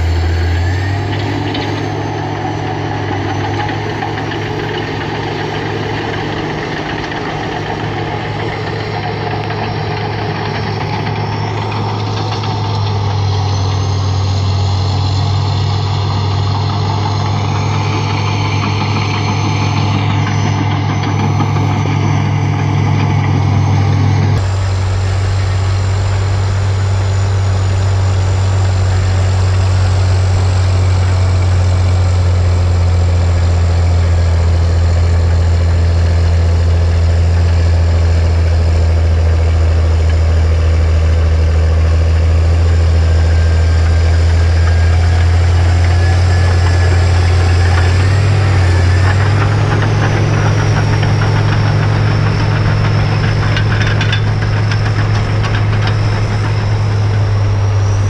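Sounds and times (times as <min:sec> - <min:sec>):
diesel engine drone: 0:00.0 - 0:58.0
high whine dropping in pitch: 0:00.0 - 0:58.0.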